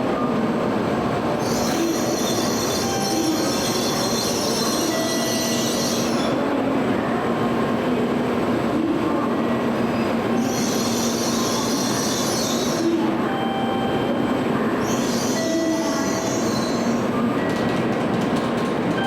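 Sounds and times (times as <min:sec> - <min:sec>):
train rolling through station: 0:00.0 - 0:19.0.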